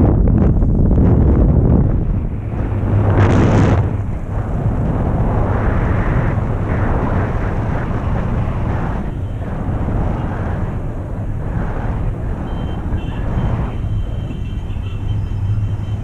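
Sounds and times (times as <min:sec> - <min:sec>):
rushing wind: 0:00.0 - 0:16.0
steady low drone: 0:00.0 - 0:16.0.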